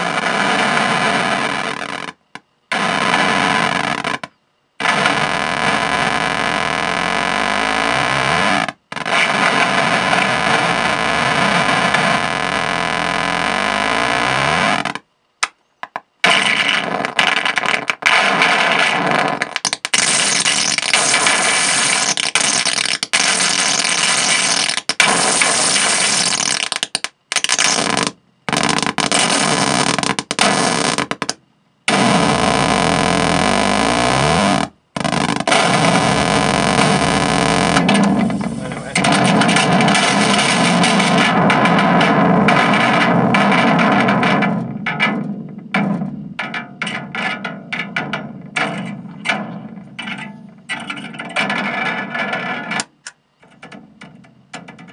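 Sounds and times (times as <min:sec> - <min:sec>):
harsh fuzz noise: 0:00.0 - 0:15.0, 0:16.2 - 0:53.0.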